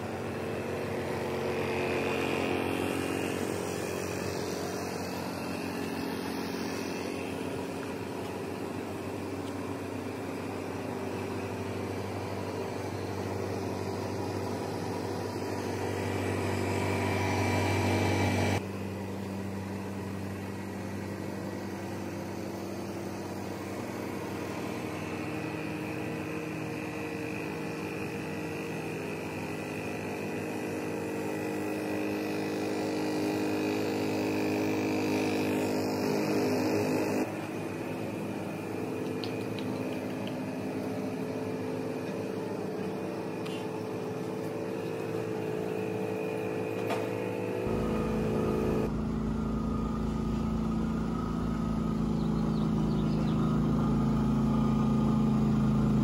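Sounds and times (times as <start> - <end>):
generators humming: 0.0 - 56.0.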